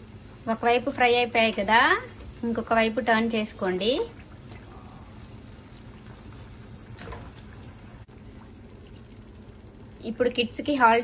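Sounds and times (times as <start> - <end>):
crackers sizzling in hot oil: 0.0 - 11.0.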